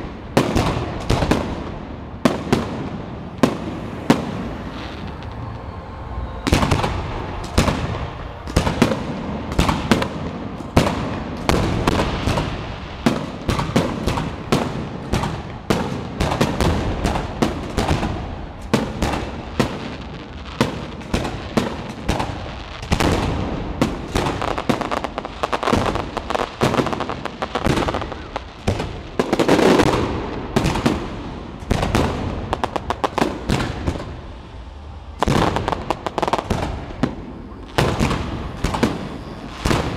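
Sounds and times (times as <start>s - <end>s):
fireworks bursting: 0.0s - 39.9s
sharp firework reports: 0.0s - 39.9s.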